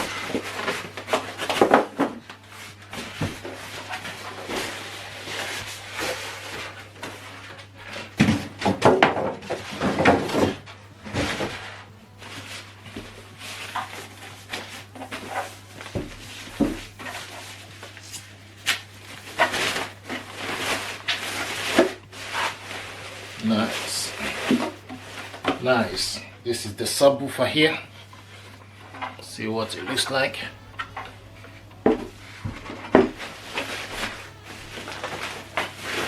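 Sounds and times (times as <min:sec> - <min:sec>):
packaging rustling and scraping: 0:00.0 - 0:36.0.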